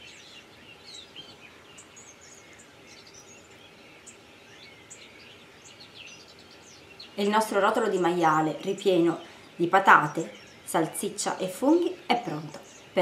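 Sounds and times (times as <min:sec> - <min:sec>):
low steady hiss: 0:00.0 - 0:13.0
small birds chirping: 0:00.0 - 0:13.0.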